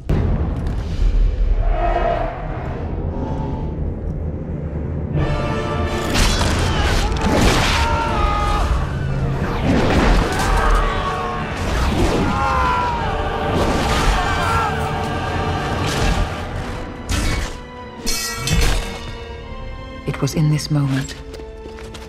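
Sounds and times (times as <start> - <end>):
dramatic orchestral music: 0.0 - 22.0.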